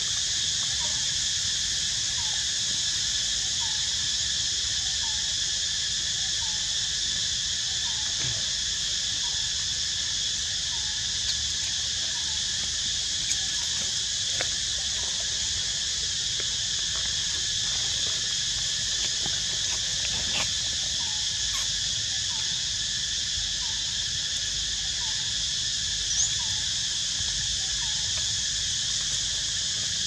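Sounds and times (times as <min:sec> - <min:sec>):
insect chorus buzzing: 0:00.0 - 0:30.0.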